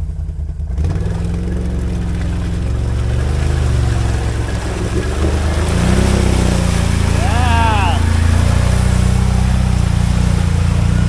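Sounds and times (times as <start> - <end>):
atv engine revving: 0.0 - 11.0
water churning around tyres: 0.1 - 11.0.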